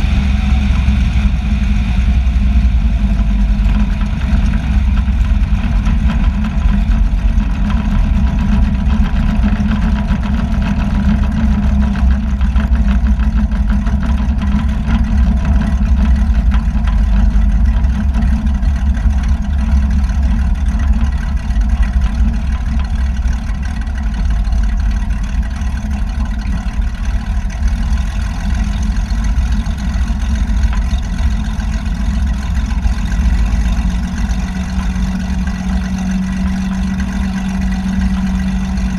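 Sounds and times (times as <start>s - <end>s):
light aircraft engine drone: 0.0s - 38.9s.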